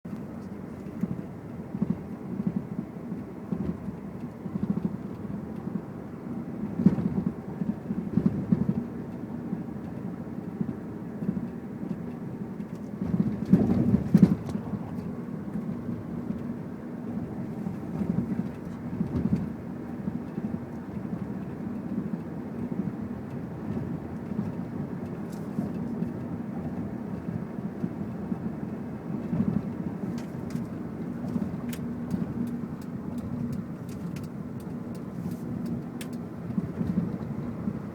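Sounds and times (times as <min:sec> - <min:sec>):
car engine low rumble: 0:00.1 - 0:37.9.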